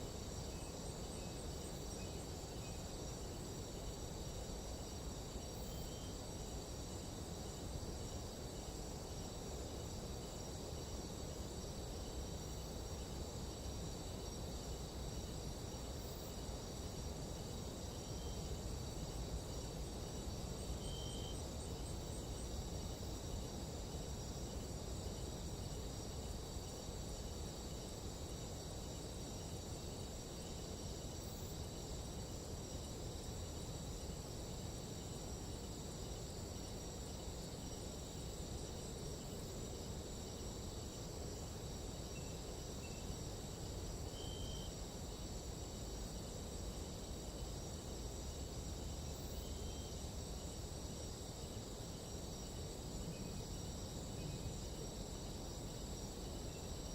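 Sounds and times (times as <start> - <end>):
high-pitched insect trills: 0.0 - 56.9
short insect chirp: 0.0 - 56.9.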